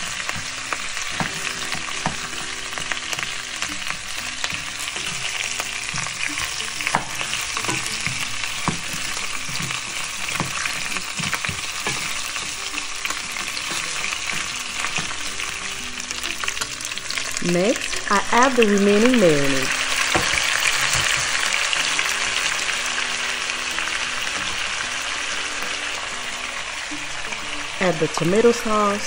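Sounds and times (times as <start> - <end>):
meat sizzling in oil: 0.0 - 29.0.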